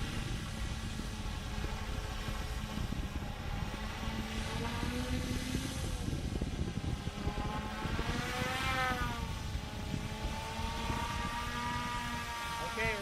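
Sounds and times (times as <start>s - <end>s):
drone propellers humming: 0.0s - 13.0s
wind buffeting microphone: 0.0s - 13.0s.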